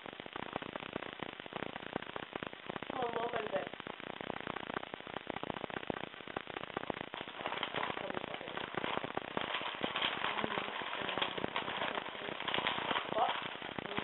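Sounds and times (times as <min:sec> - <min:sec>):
dense irregular crackling: 0:00.0 - 0:14.0.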